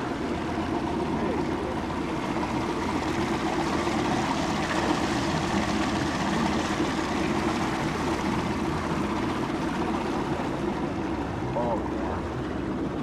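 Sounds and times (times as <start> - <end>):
boat motor drone: 0.0 - 13.0
rushing water: 0.0 - 13.0.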